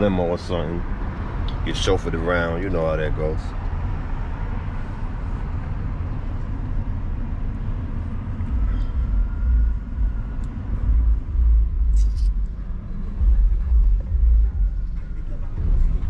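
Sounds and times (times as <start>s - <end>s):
car engine rumble from inside: 0.0s - 16.0s.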